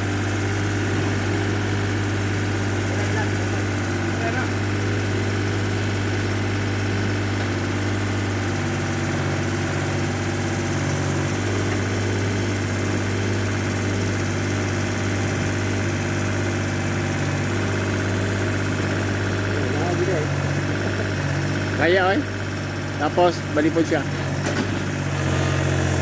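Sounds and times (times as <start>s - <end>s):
backhoe engine idling: 0.0s - 26.0s.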